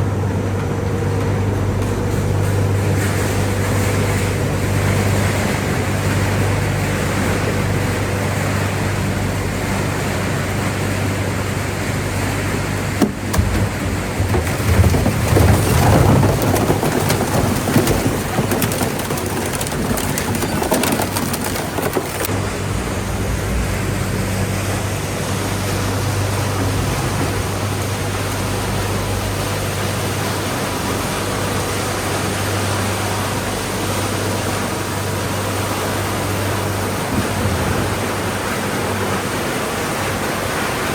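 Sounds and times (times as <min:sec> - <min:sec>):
broad rushing machine noise: 0:00.0 - 0:40.9
low mechanical hum: 0:00.0 - 0:40.9.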